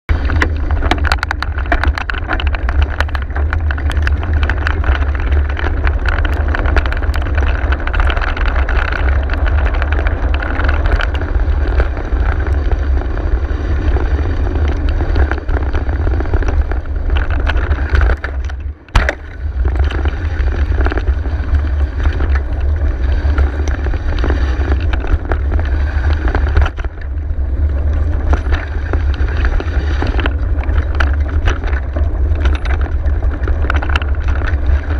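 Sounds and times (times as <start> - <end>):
wind rumble on microphone: 0.0 - 34.9
bike rattling and clicking: 0.1 - 34.9.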